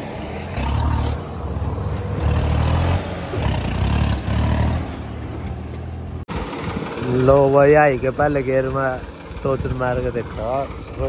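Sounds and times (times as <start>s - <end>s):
diesel tractor engine revving: 0.0s - 11.0s.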